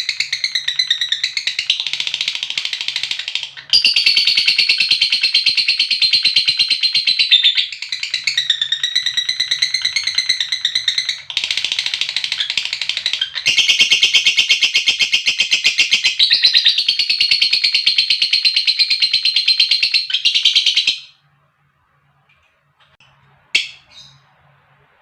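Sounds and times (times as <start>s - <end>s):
lovebird chattering trill: 0.0s - 21.1s.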